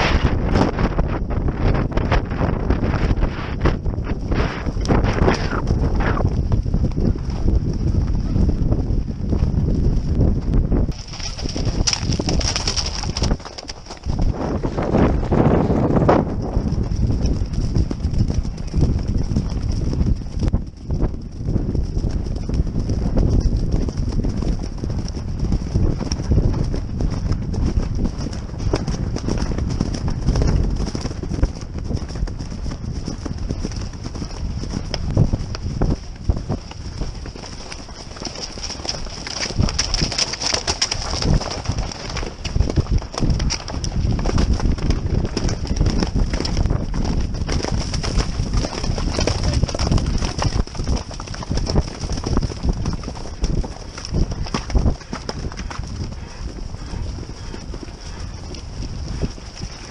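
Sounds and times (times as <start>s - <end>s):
horse hoofbeats on grass: 0.0s - 59.9s.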